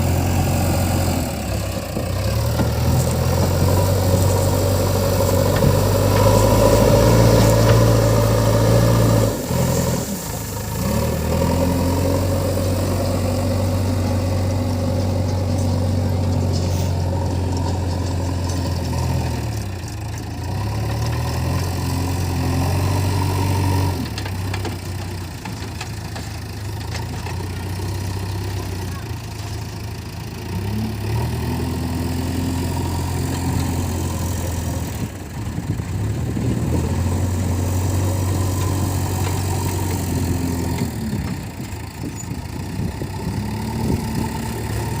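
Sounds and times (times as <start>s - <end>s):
diesel engine working under load: 0.0s - 45.0s.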